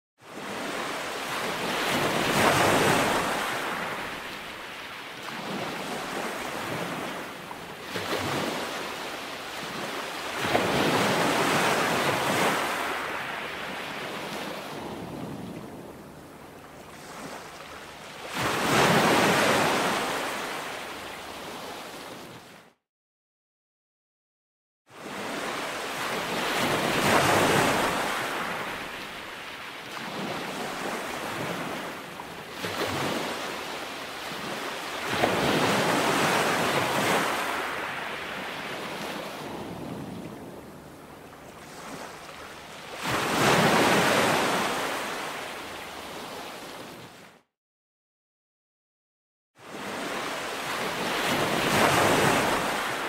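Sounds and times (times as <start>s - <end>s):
wind: 0.2s - 22.8s, 24.9s - 47.5s, 49.6s - 53.0s
waves breaking: 0.3s - 22.5s, 25.0s - 47.2s, 49.7s - 53.0s.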